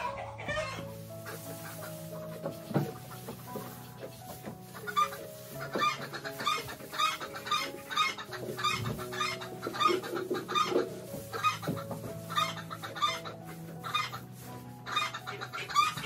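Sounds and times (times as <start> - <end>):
background music with held notes: 0.0 - 16.0
chickens clucking: 0.0 - 16.0.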